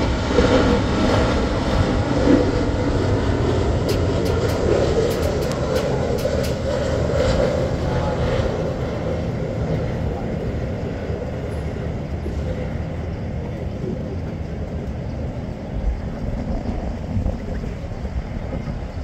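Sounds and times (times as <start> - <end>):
jet airliner engine rumble: 0.0 - 19.0.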